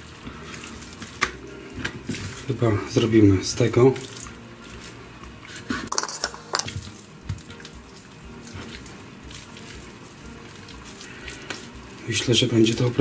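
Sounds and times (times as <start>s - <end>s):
raw meat squelching: 0.0s - 13.0s.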